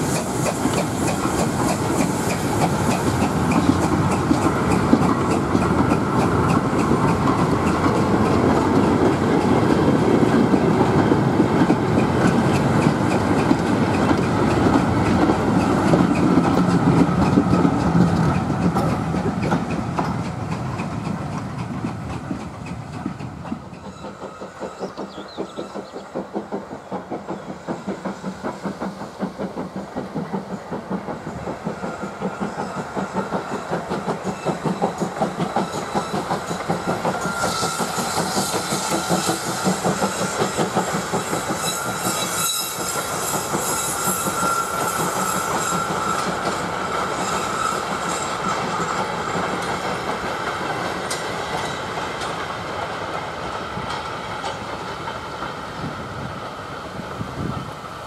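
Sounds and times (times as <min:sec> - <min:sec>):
distant steam locomotive exhaust beat: 0:00.0 - 0:58.0.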